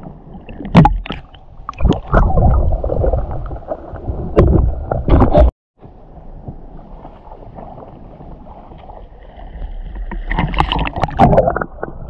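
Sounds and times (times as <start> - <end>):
water splashing: 0.0 - 5.5, 6.8 - 12.0
water lapping and sloshing: 0.0 - 12.0.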